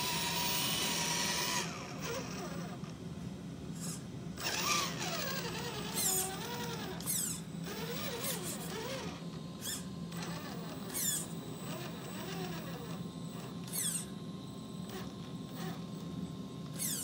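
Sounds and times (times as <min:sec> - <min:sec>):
rc truck motor whining: 0:00.0 - 0:02.9, 0:03.8 - 0:17.0.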